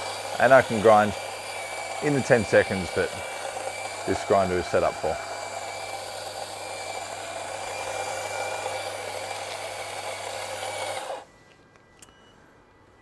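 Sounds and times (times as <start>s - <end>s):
coffee grinder motor hum: 0.0s - 11.3s.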